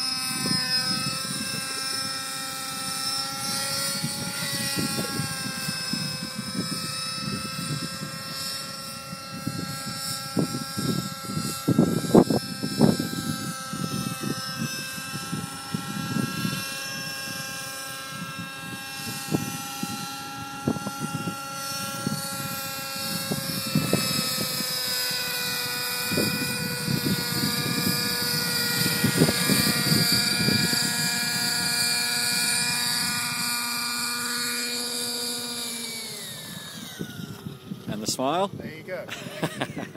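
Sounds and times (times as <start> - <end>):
helicopter rotor whine: 0.0 - 39.9
wind on microphone: 0.0 - 39.9.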